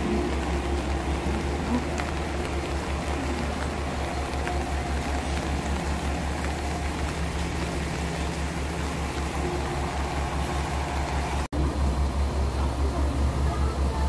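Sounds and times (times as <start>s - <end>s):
diesel engine idling: 0.0s - 14.0s
rain hissing: 0.0s - 14.0s.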